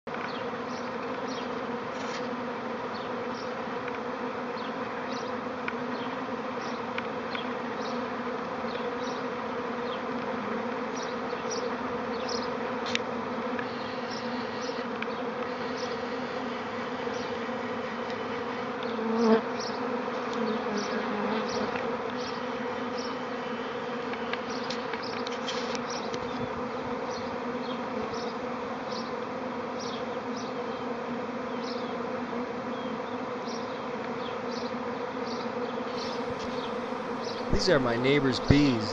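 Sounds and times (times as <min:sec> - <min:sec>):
honeybees buzzing: 0:00.1 - 0:38.9.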